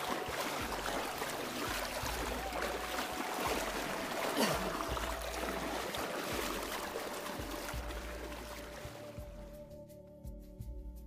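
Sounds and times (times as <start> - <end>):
person wading through stream: 0.0 - 9.7.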